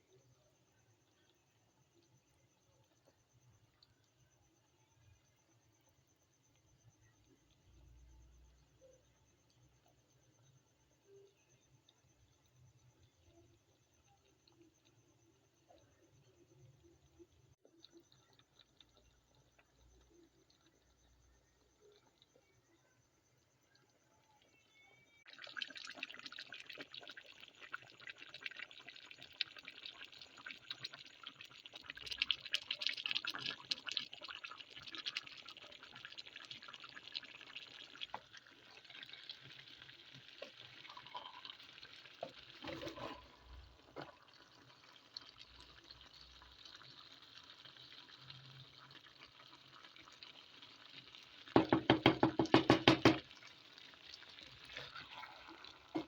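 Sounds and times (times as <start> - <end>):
food crackling and bubbling in pot: 0.0 - 56.0.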